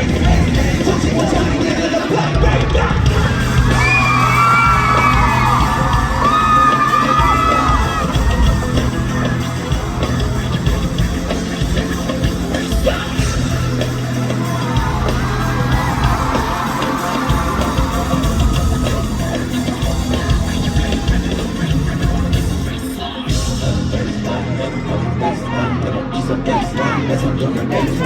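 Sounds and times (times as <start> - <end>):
heavy bass line: 0.0 - 28.0
loud hip-hop music: 0.0 - 28.0.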